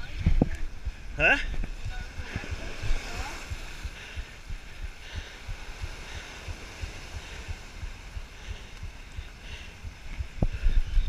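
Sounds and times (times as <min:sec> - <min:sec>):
surf washing over rocks: 0:00.0 - 0:10.8
wind on microphone: 0:00.0 - 0:11.0.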